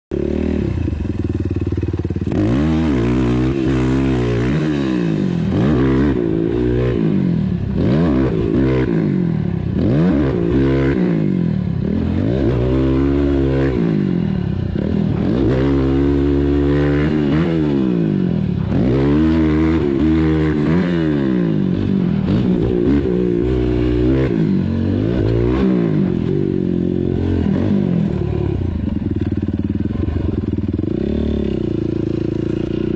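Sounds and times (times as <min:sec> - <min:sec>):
atv engine idling and revving: 0:00.1 - 0:32.9.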